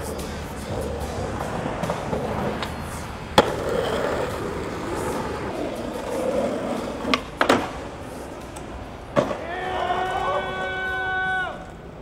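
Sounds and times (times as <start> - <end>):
skateboard clack: 0.0 - 12.0
skateboard wheels rolling on asphalt: 0.0 - 12.0.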